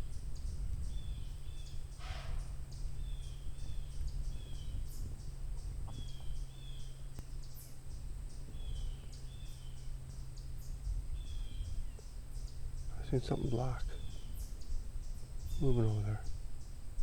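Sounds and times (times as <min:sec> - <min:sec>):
bird chirping: 0:00.0 - 0:17.0
steady low rumble: 0:00.0 - 0:17.0.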